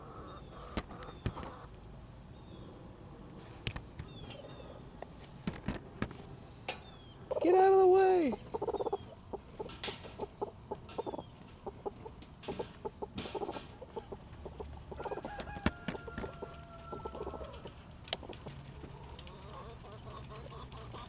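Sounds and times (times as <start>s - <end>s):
hens clucking: 0.0s - 1.8s, 3.6s - 21.0s.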